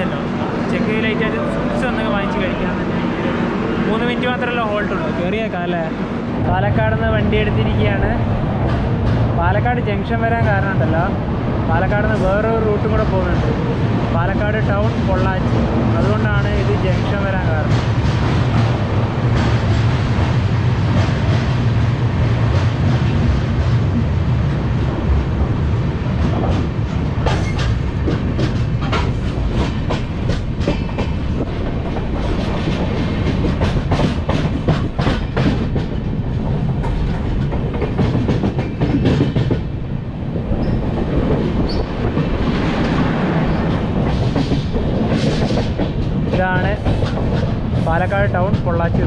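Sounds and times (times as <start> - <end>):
train wheels rumbling: 0.0 - 49.0.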